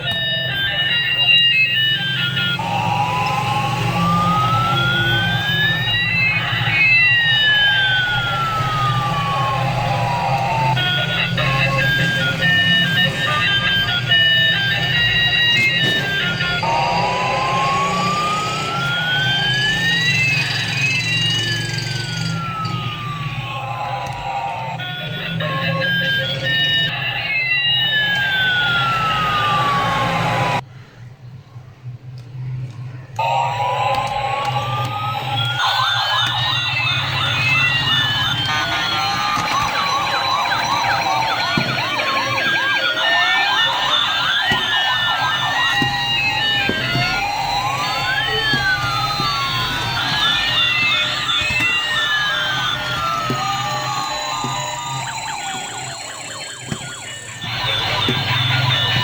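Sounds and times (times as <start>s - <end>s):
toy electronic siren: 0.0s - 30.6s, 33.2s - 59.0s.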